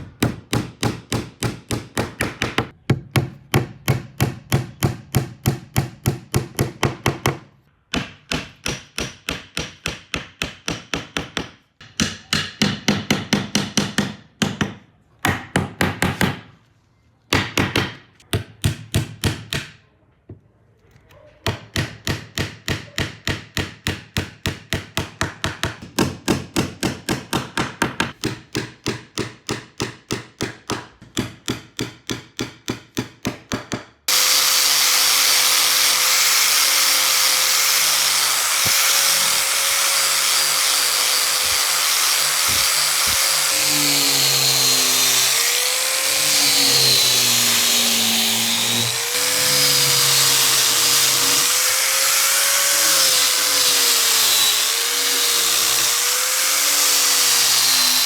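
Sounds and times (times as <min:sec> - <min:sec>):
hammer striking wood: 0:00.0 - 0:16.5, 0:17.3 - 0:19.8, 0:21.5 - 0:35.2, 0:35.8 - 0:52.1.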